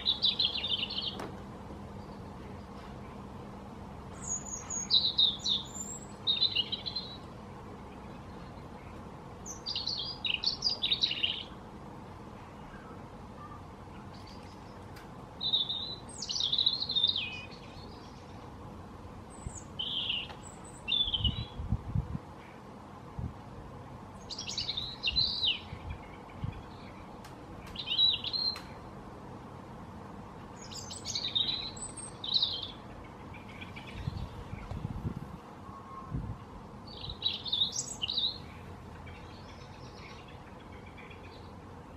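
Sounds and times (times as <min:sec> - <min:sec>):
robin singing: 0:00.0 - 0:03.4, 0:04.0 - 0:21.7, 0:24.1 - 0:29.0, 0:30.4 - 0:41.9.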